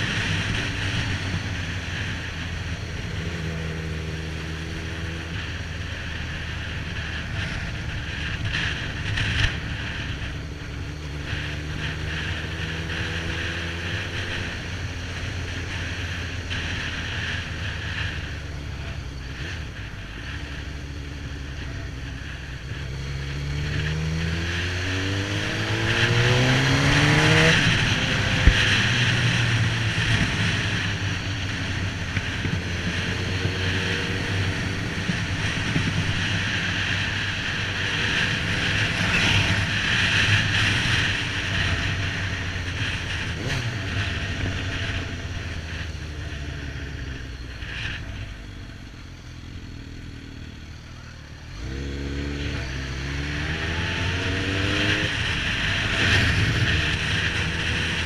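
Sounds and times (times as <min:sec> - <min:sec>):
wind rushing over microphone: 0:00.0 - 0:49.9, 0:50.6 - 0:58.0
motorcycle engine running: 0:00.0 - 0:58.0.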